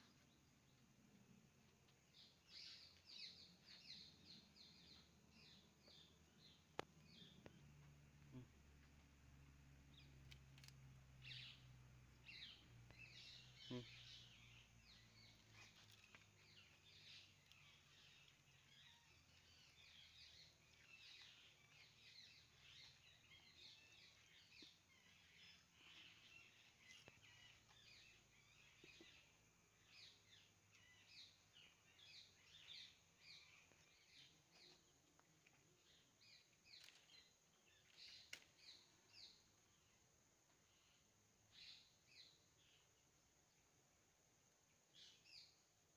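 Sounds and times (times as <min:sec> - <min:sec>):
faint birds chirping: 0:00.0 - 0:45.9.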